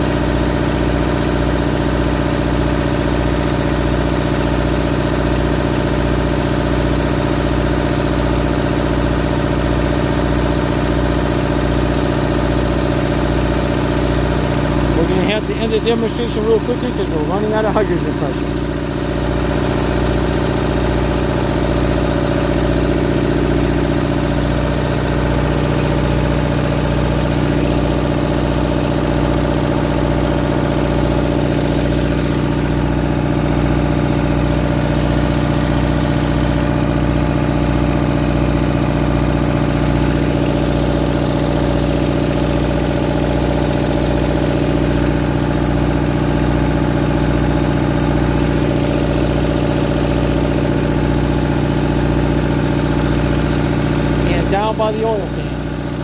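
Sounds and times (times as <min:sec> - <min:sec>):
generator engine running steadily: 0:00.0 - 0:56.0.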